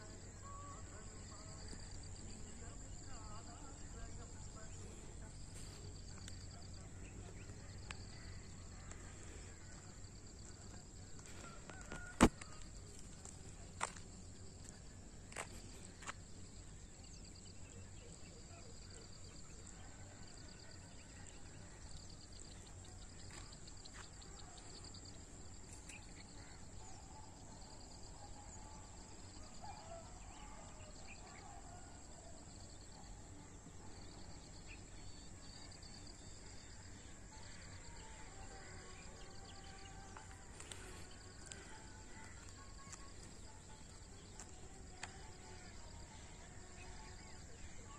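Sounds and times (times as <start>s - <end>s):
insects chirping: 0.0s - 47.9s
low background noise: 0.0s - 47.9s.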